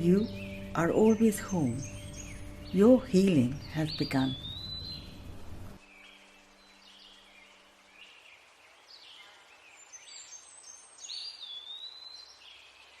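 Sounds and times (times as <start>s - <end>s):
birds chirping and whistling: 0.0s - 12.8s.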